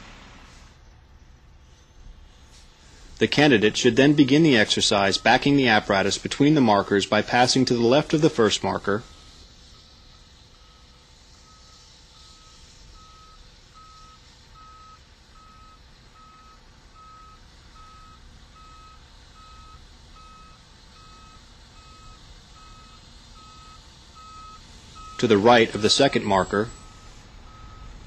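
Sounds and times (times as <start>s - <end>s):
low engine rumble: 0.0s - 28.0s
back-up alarm beeping: 3.4s - 6.7s, 8.3s - 28.0s.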